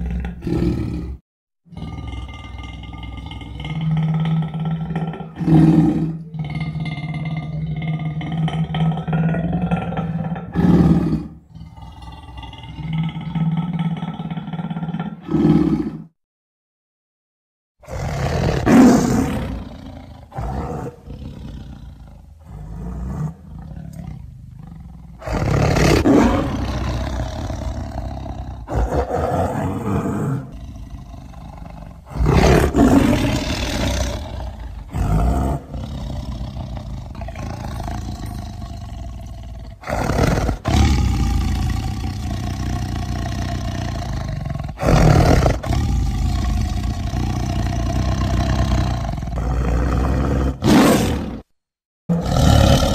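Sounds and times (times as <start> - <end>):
cougar snarling roars: 0.0 - 16.1, 17.8 - 51.5, 52.1 - 52.9
low rumbling growl: 0.0 - 16.1, 19.0 - 50.6.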